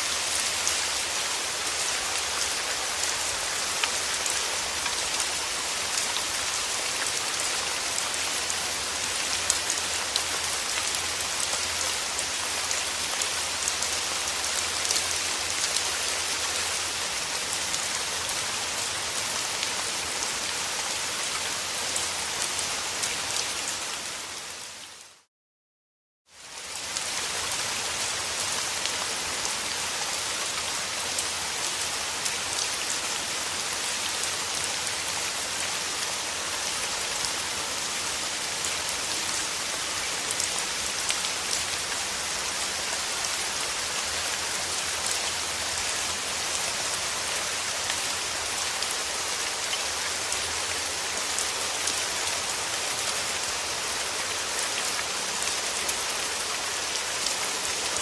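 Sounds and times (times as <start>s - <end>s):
steady rain falling: 0.0s - 25.3s, 26.3s - 58.0s.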